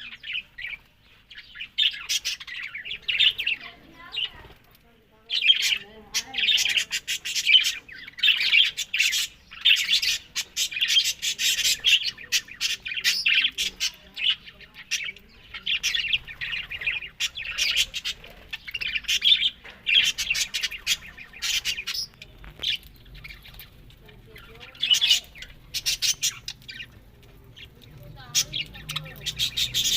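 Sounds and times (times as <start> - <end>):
budgerigars chattering: 1.4 - 4.5, 5.3 - 29.9.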